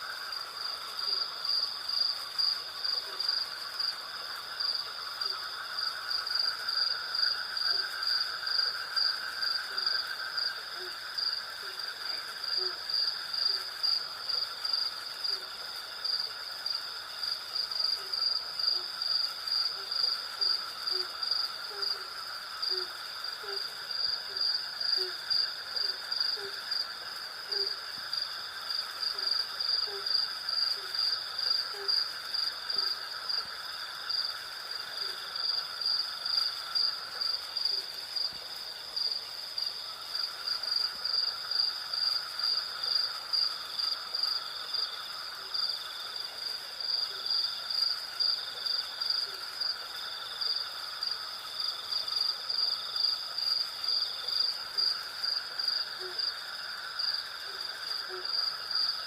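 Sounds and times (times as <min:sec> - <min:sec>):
crickets and cicadas chirping: 0:00.0 - 0:59.0.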